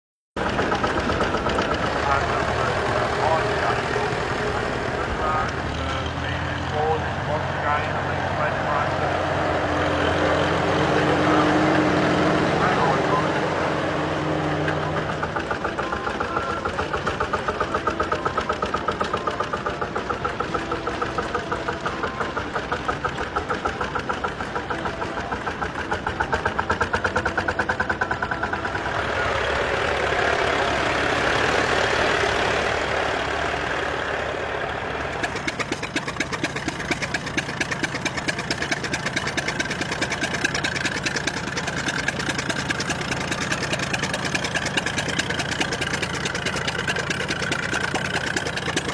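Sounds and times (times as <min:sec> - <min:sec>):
tractor engines running: 0:00.4 - 0:48.9.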